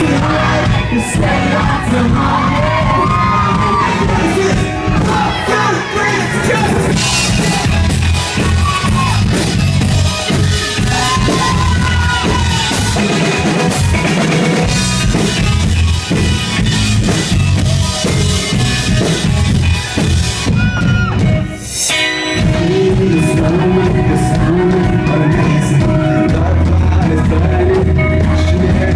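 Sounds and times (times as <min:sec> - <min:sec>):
drum kit: 0:00.0 - 0:28.9
rock band playing: 0:00.0 - 0:28.9.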